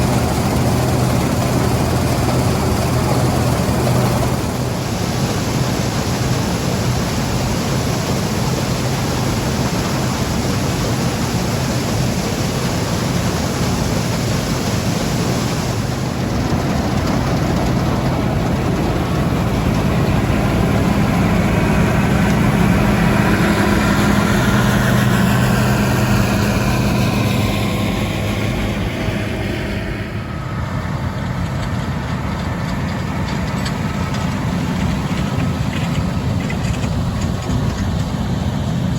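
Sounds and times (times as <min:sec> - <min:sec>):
diesel farm machinery running: 0:00.0 - 0:38.9
high machine whine: 0:00.0 - 0:38.9.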